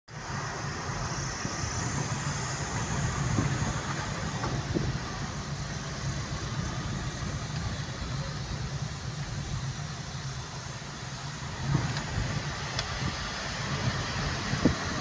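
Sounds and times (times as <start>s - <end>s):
car engine and tyre noise: 0.1s - 15.0s.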